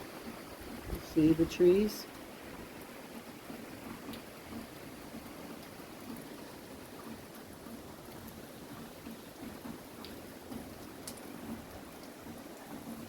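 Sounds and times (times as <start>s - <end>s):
faint ticks of raindrops: 0.0s - 13.0s
rain hissing: 0.0s - 13.0s.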